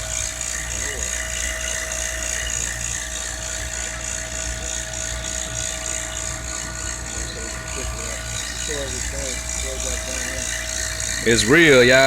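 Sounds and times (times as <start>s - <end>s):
vacuum pump whining: 0.0s - 12.0s.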